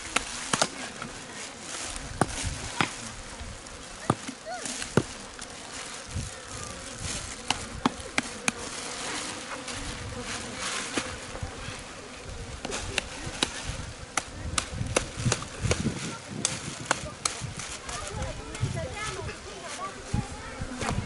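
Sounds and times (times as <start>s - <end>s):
flies buzzing: 0.0s - 21.0s.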